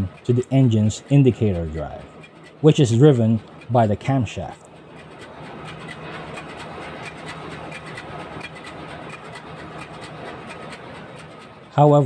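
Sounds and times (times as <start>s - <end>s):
diesel engine din: 0.0s - 12.0s
fast even ticking: 0.0s - 12.0s.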